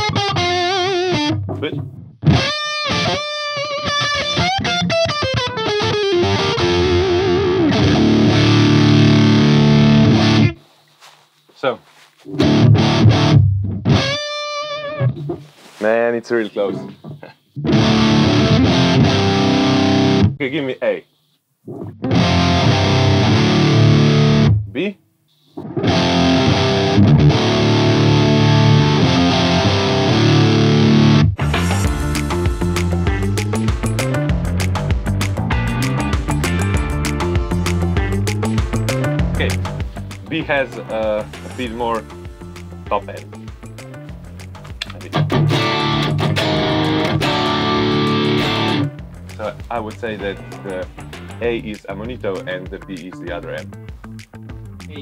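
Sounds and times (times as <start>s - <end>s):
distorted electric guitar: 0.0s - 10.6s, 12.3s - 15.5s, 16.7s - 20.4s, 21.7s - 24.7s, 25.4s - 55.0s.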